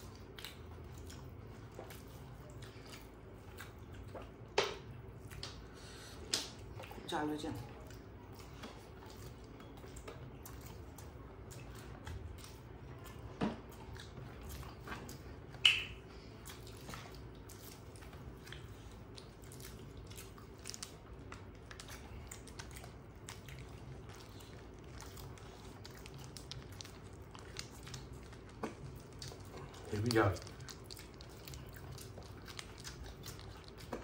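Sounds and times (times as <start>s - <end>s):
wet clicks and smacks: 0.0s - 7.0s, 7.8s - 34.0s
people chewing: 0.0s - 34.0s.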